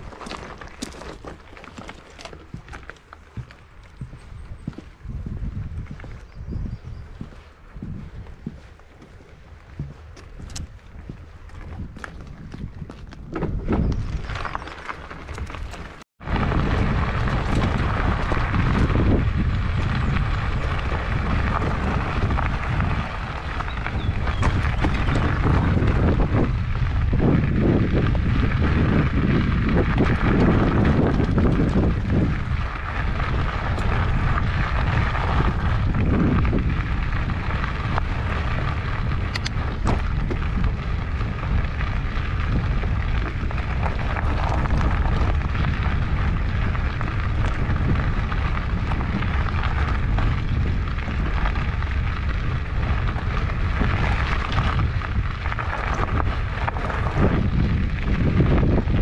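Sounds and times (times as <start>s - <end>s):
tyres rolling over gravel: 0.0s - 59.0s
wind buffeting microphone: 0.0s - 59.0s.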